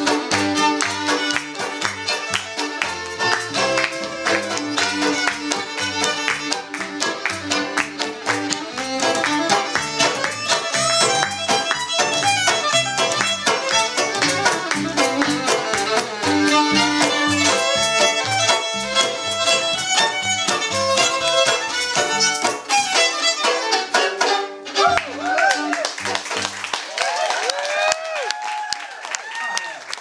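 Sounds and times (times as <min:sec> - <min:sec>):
bowed fiddle melody: 0:00.0 - 0:26.6
plucked double bass: 0:00.0 - 0:26.6.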